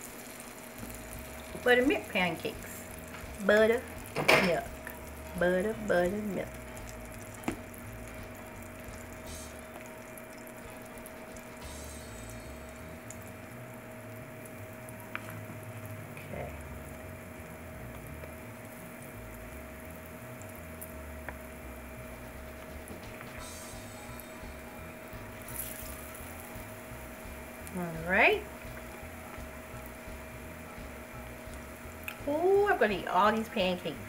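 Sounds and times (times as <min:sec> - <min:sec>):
batter sizzling in oil: 0:00.0 - 0:34.0
faint steady hum: 0:00.0 - 0:34.0.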